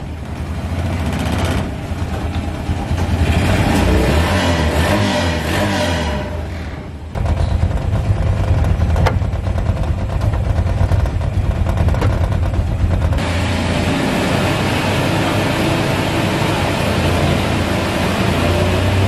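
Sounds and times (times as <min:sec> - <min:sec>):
small engine idling: 0:00.0 - 0:04.2, 0:06.9 - 0:19.0.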